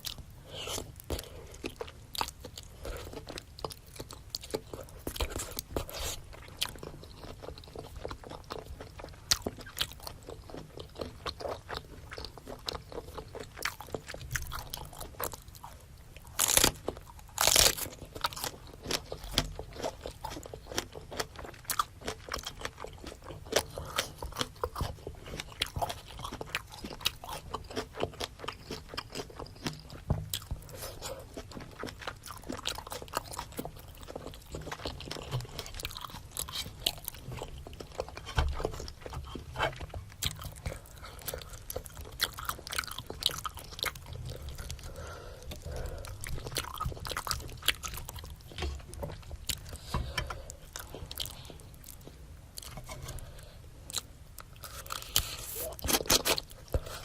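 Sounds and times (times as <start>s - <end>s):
chewing and biting seafood: 0.0s - 53.2s, 53.9s - 57.0s.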